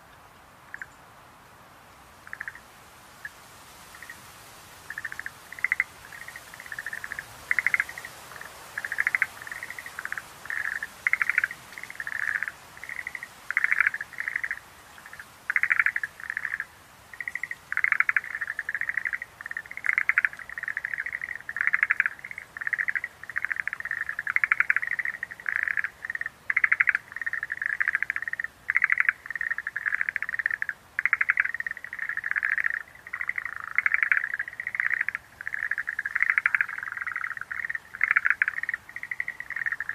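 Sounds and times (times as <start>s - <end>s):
tree frogs calling: 0.0s - 1.1s, 2.2s - 39.9s.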